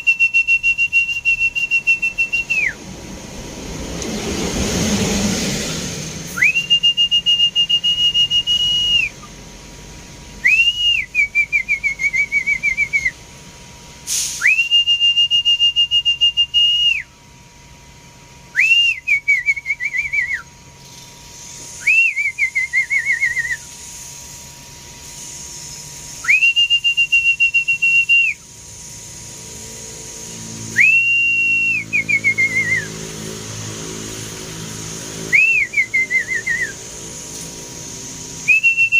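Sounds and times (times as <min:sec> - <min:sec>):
loud swooping whistles: 0:00.0 - 0:02.9, 0:03.8 - 0:09.3, 0:10.4 - 0:13.2, 0:14.1 - 0:17.1, 0:18.5 - 0:20.5, 0:21.4 - 0:23.9, 0:25.2 - 0:38.9.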